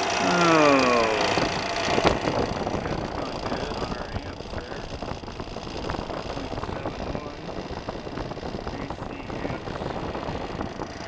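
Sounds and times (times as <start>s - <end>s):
fan blade rushing air: 0.0s - 11.0s
fan motor running: 0.0s - 11.0s.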